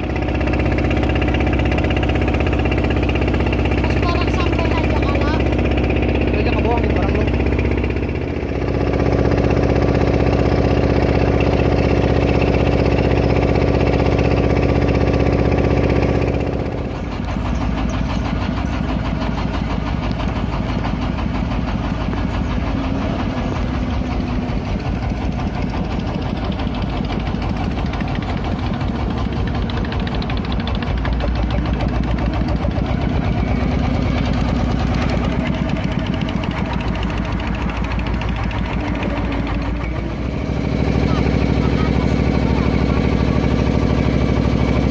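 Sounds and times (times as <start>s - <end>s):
boat diesel engine running: 0.0s - 44.9s.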